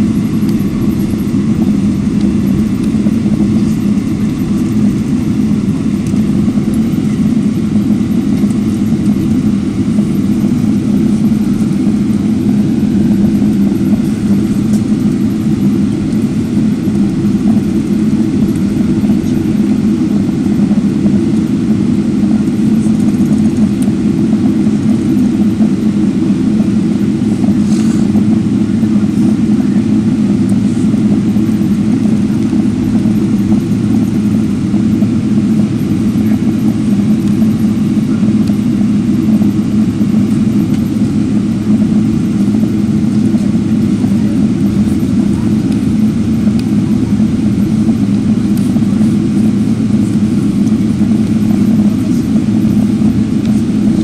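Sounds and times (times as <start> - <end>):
jet engines idling low hum: 0.0 - 54.0.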